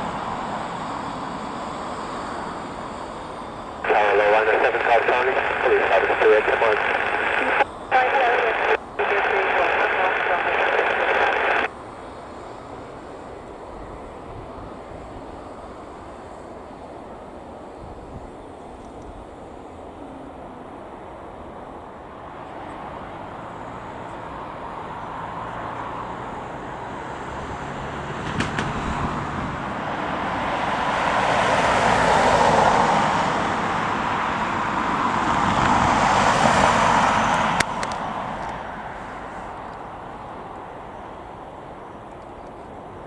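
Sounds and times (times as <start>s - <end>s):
jet airliner passing: 0.0s - 43.0s.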